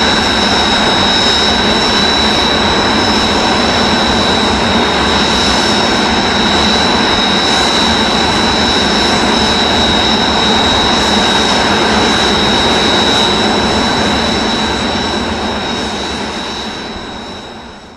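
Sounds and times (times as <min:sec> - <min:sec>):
jet engines running: 0:00.0 - 0:17.9.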